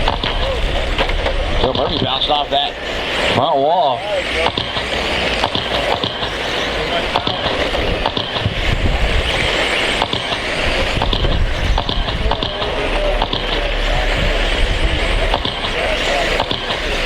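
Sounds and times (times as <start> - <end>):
sharp clicks and knocks: 0.0 - 2.4, 4.4 - 17.0
electric motors whirring: 0.0 - 17.0.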